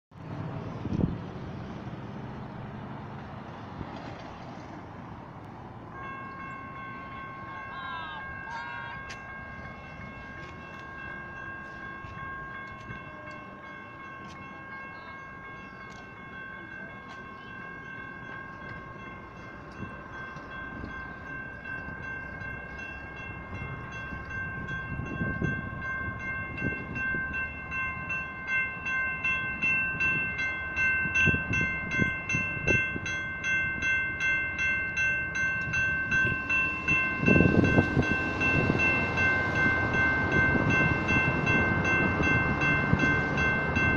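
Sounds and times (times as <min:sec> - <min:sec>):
freight train rumble: 0:00.1 - 0:43.9
railroad crossing bells ringing: 0:04.8 - 0:43.9.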